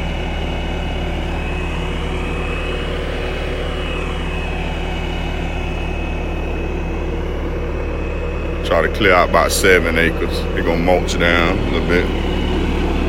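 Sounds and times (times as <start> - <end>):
high whine: 0.0 - 13.0
skid steer engine rumbling: 0.0 - 13.0.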